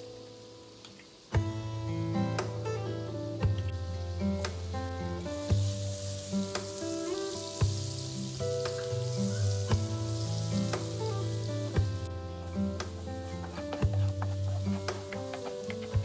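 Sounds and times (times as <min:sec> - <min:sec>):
background music: 0:00.0 - 0:16.0
butter sizzling in frying pan: 0:00.1 - 0:16.0.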